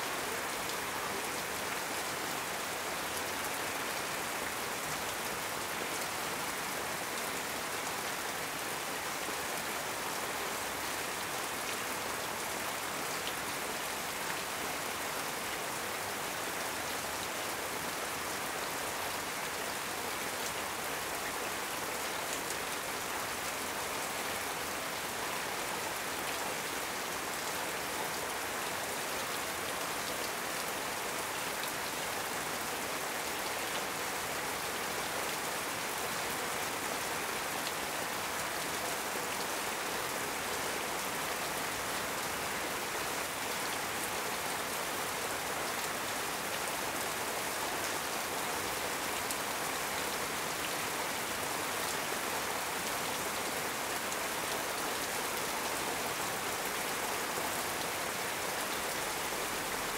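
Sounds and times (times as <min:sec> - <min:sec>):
heavy rain on metal roof: 0:00.0 - 0:59.9.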